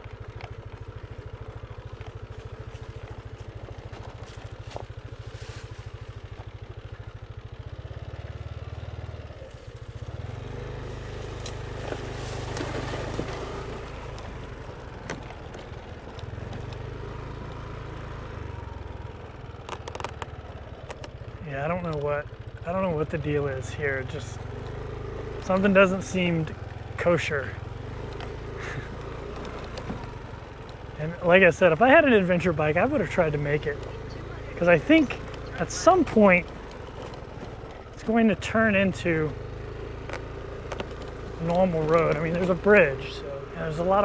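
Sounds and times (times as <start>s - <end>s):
motorbike engine idling: 0.0s - 44.0s
pickup truck driving on dirt: 0.0s - 44.0s.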